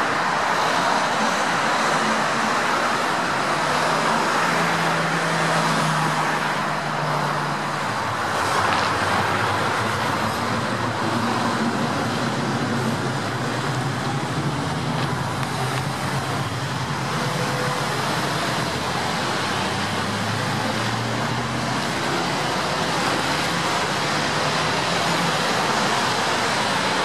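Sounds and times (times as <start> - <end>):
cars passing on road: 0.0 - 27.0
heavy vehicle engine droning: 0.0 - 27.0.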